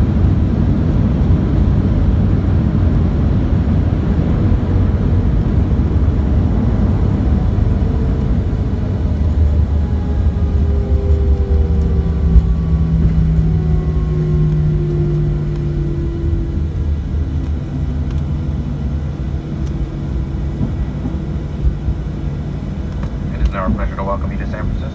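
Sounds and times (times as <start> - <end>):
jet engines spooling down: 0.0 - 24.9
wheels rumbling on runway: 0.0 - 24.9.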